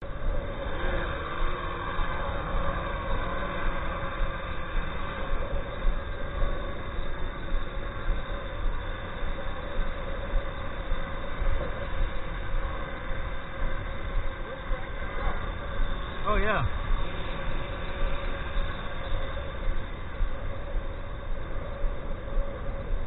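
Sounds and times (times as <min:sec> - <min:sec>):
drone propellers whining: 0:00.0 - 0:23.0
heavy gusting low rumble: 0:00.0 - 0:23.0.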